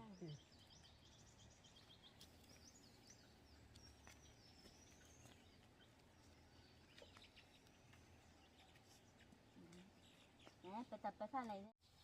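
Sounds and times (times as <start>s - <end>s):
faint bird chirps: 0.0s - 11.1s.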